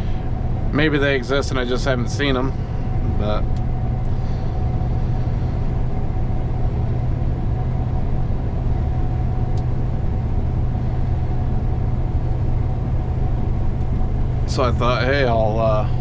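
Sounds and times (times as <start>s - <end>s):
combine low rumble: 0.0s - 16.0s
faint steady whine: 0.0s - 16.0s.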